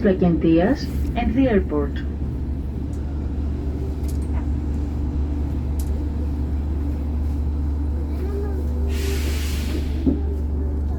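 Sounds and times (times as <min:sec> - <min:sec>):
train rumble: 0:00.0 - 0:10.9.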